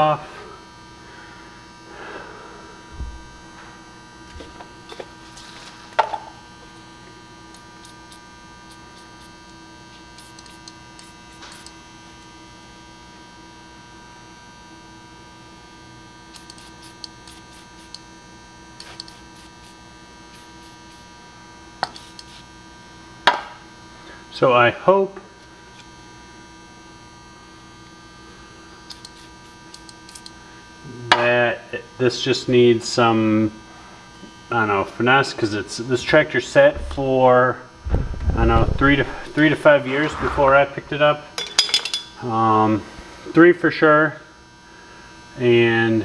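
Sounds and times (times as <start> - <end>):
electrical hum: 0.0 - 46.0.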